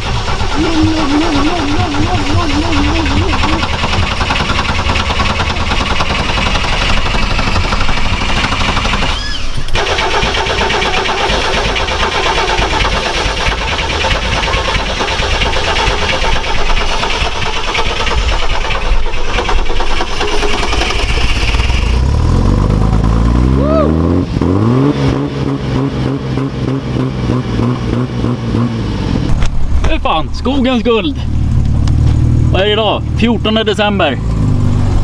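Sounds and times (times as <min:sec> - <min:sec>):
off-road vehicle engine running hard: 0:00.0 - 0:35.0.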